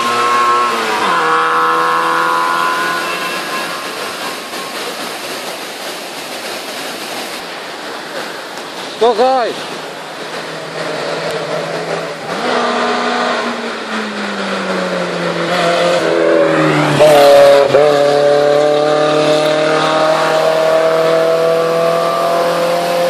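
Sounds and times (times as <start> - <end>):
race car engine at full throttle: 0.0 - 5.8, 8.0 - 23.0.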